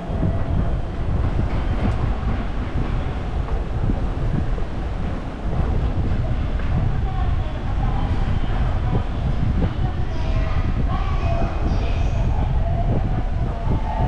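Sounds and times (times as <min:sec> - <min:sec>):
subway train wheels rumbling on rail: 0:00.0 - 0:14.0.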